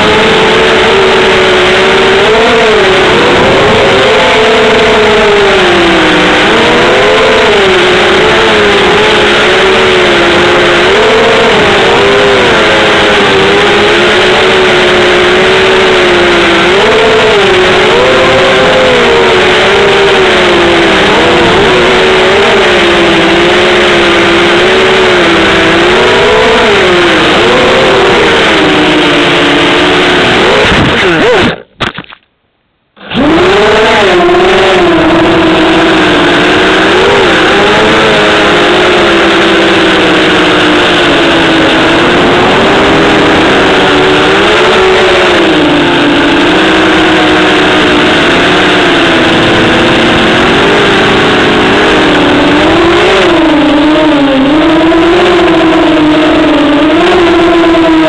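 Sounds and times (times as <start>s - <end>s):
drone motors buzzing whine: 0.0s - 31.6s, 33.0s - 58.0s.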